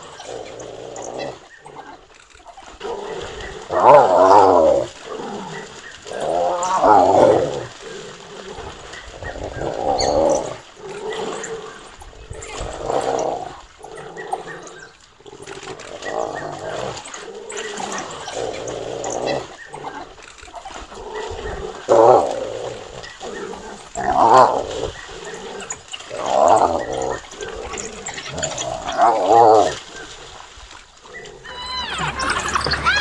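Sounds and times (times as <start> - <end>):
animals growling: 0.0 - 33.0
water splashing: 0.0 - 33.0.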